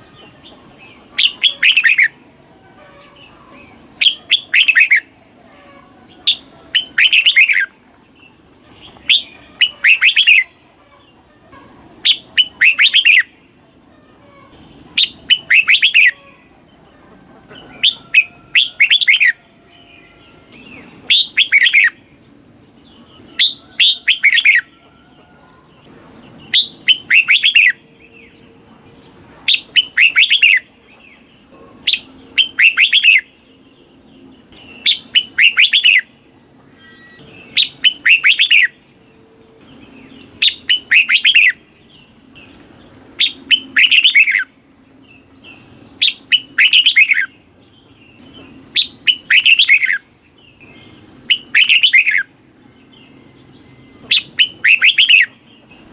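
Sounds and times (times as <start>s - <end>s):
bird singing: 0.0s - 55.9s.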